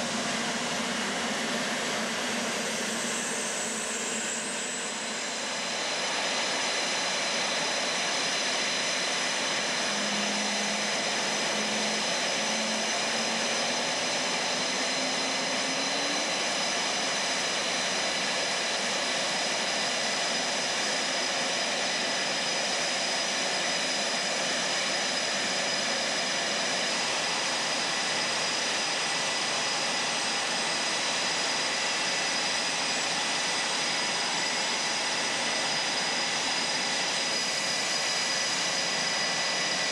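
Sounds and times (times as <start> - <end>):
jet engine turbine whine: 0.0 - 39.9.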